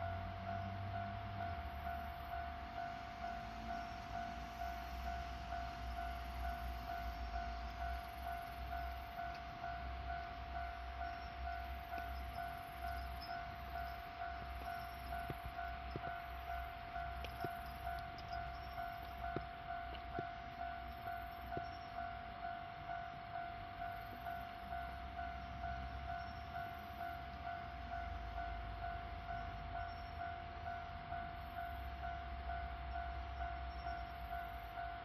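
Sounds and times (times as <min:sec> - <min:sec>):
level-crossing warning bell: 0:00.0 - 0:35.0
train rumble: 0:00.0 - 0:35.0.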